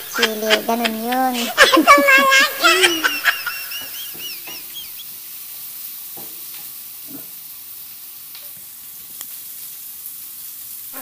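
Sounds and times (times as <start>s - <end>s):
onion sizzling in frying pan: 0.0s - 11.0s.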